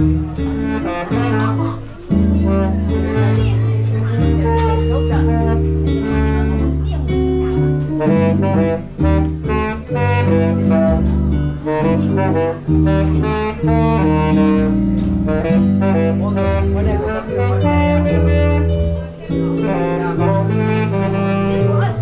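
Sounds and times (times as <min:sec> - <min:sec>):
saxophone melody: 0:00.0 - 0:22.0
steady bass line: 0:00.0 - 0:22.0.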